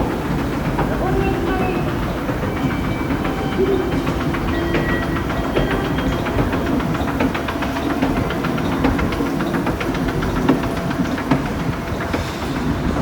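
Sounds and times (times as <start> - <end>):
escalator machine drone: 0.0 - 13.0
escalator steps clicking: 0.0 - 13.0.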